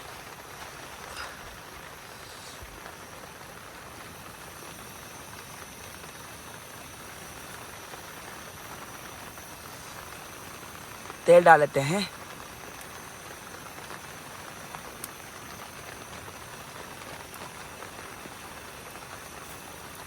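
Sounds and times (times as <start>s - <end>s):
heavy rain on a tent: 0.0s - 20.0s.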